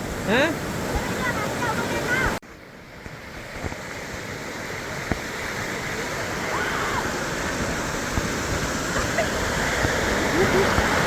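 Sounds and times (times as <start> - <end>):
waterfall rushing: 0.0 - 2.4, 3.2 - 11.0.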